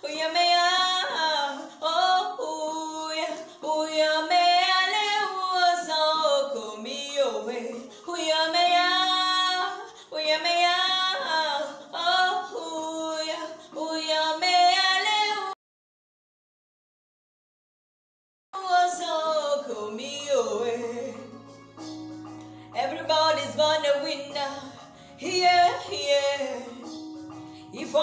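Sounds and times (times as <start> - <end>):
woman singing unaccompanied: 0.0 - 15.6, 18.6 - 21.5, 22.7 - 27.0, 27.6 - 28.0.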